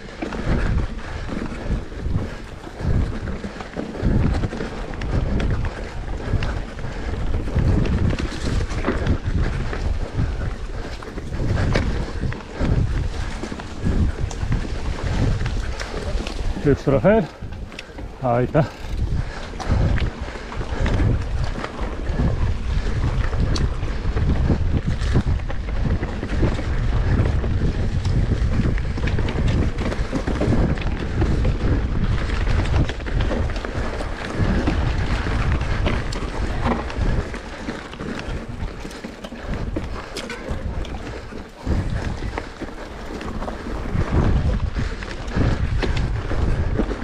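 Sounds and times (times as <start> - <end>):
wind buffeting the microphone: 0.0 - 47.0.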